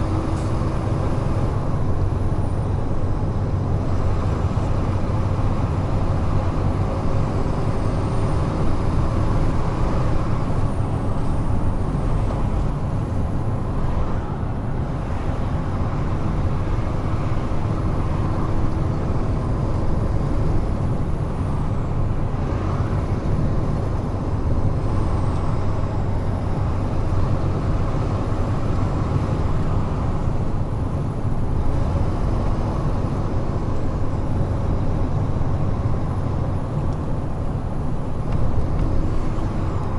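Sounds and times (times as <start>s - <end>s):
truck engine drone: 0.0s - 39.9s
tyre and road noise: 0.0s - 39.9s.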